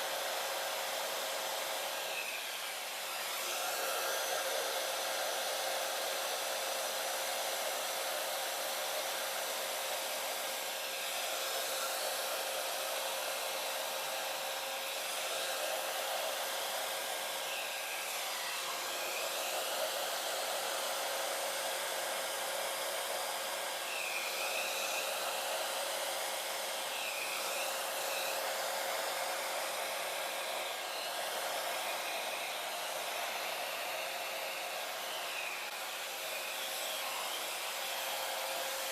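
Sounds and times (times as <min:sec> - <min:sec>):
blow dryer humming: 0:00.0 - 0:38.9.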